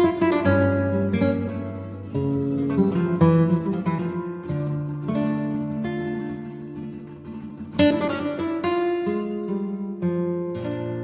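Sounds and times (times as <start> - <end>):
flamenco acoustic guitar: 0.0 - 11.0.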